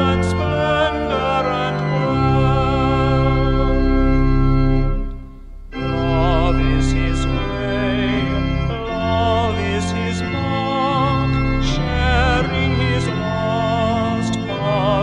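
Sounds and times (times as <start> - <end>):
organ chords: 0.0 - 15.0
vibrato melody: 2.0 - 14.9.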